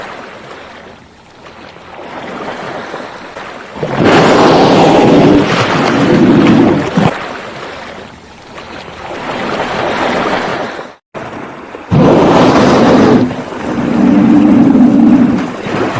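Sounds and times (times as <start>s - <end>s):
wind and sea rushing: 0.0s - 15.9s.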